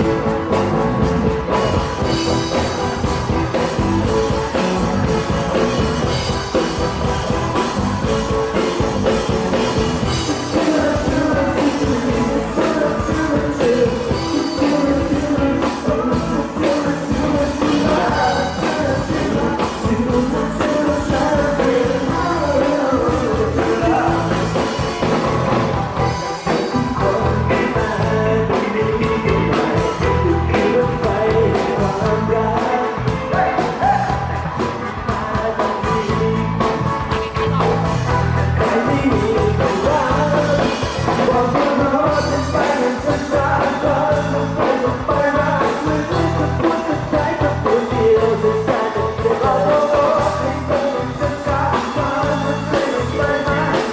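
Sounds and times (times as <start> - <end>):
lead vocalist singing: 0.0 - 53.9
pop-rock band playing: 0.0 - 53.9.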